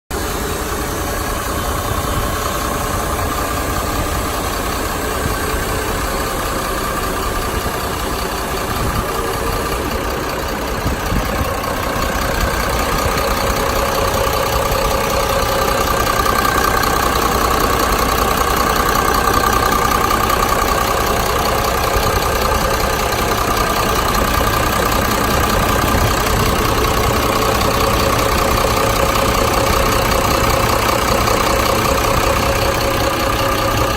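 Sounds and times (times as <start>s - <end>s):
truck diesel engine idling: 0.1s - 33.9s.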